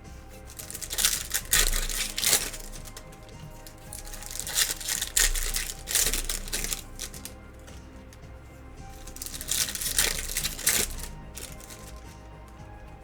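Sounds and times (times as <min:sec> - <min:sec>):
plastic wrapping crinkling and tearing: 0:00.0 - 0:08.2, 0:08.9 - 0:13.0
background music: 0:00.0 - 0:13.0.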